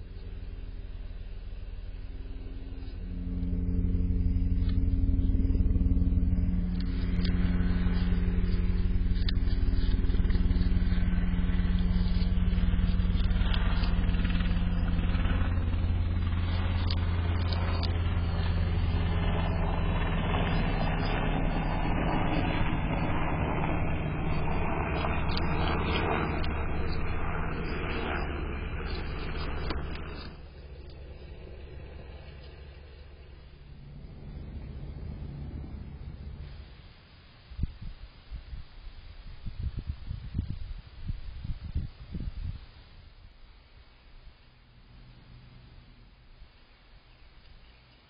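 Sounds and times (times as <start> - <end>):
engine drone: 0.0 - 48.0.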